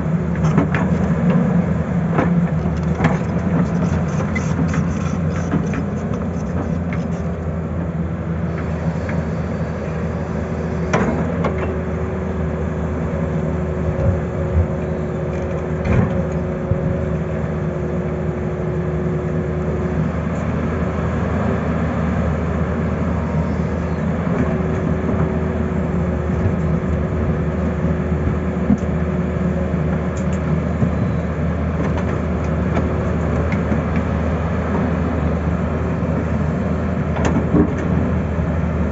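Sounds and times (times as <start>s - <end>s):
excavator diesel engine: 0.0s - 38.9s.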